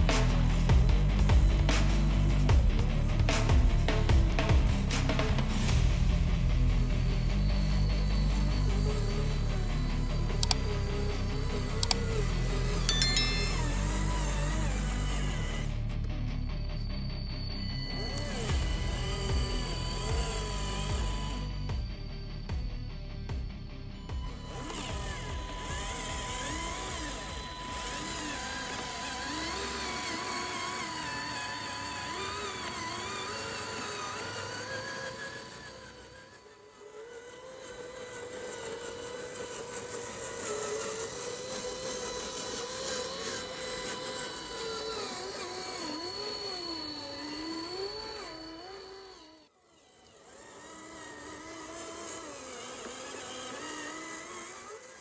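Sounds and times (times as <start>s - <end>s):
whining model vehicle motors: 0.0s - 5.9s, 6.8s - 55.0s.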